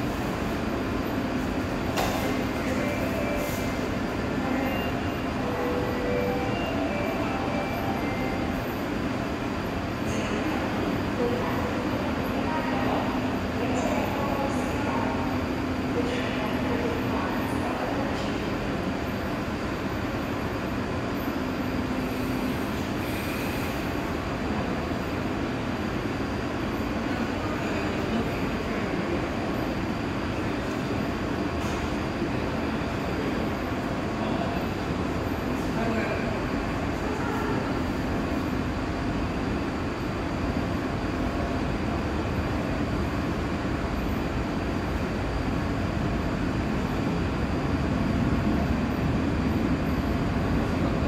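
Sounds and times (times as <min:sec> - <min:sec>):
electric train rumble: 0:00.0 - 0:51.0.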